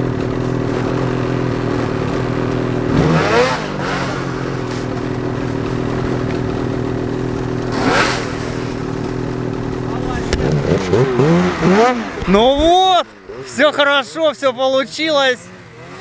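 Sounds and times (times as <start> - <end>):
snowmobile engine revving high: 0.0 - 16.0.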